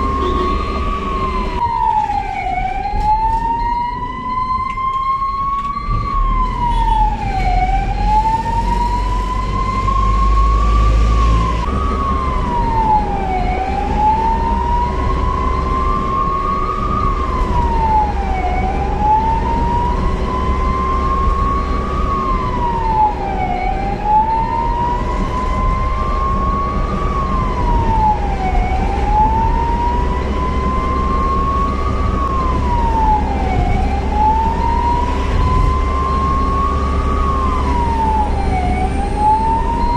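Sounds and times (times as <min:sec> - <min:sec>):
ambulance siren wailing: 0:00.0 - 0:39.9
vehicle engine and road rumble: 0:00.0 - 0:39.9.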